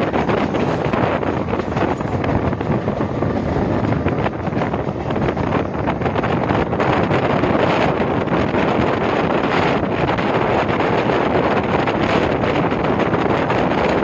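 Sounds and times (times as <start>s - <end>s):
train running on rails: 0.0s - 14.0s
wind rushing over microphone: 0.0s - 14.0s.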